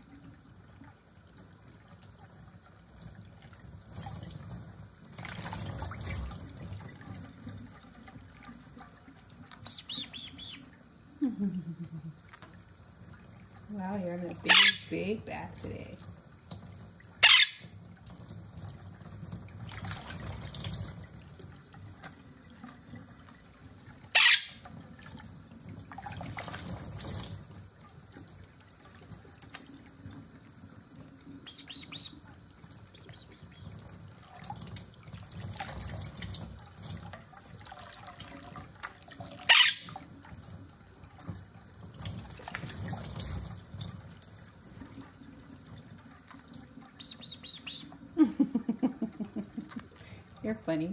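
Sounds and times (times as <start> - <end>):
trickle of running water: 0.0 - 50.9
parrot splashing in water: 2.9 - 10.7, 12.1 - 50.9.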